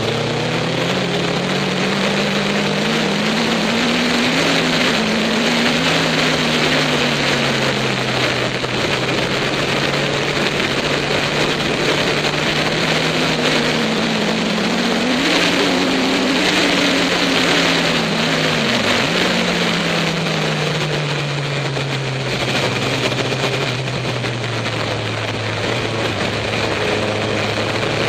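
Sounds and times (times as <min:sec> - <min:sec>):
motorcycle engine running: 0:00.0 - 0:28.0
wind rush on microphone: 0:00.0 - 0:28.0.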